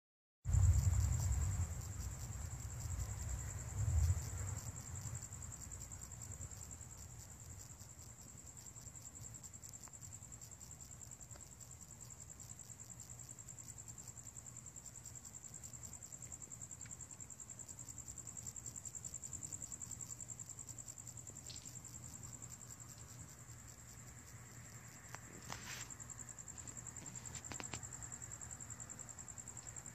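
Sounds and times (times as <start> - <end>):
crickets trilling: 0.5 - 29.9.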